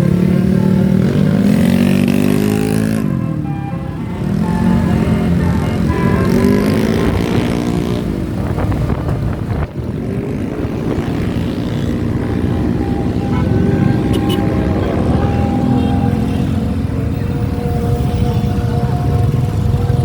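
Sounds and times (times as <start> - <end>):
multi-tone bus horn: 0.0 - 8.0, 11.4 - 20.0.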